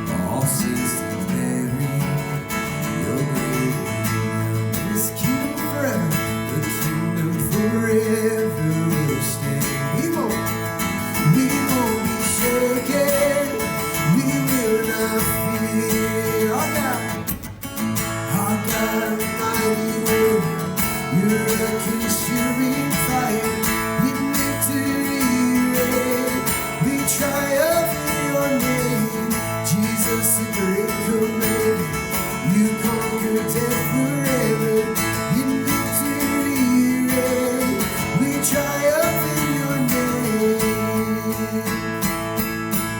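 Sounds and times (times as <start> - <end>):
strummed acoustic guitar: 0.0 - 42.9
worship band music: 1.4 - 42.9.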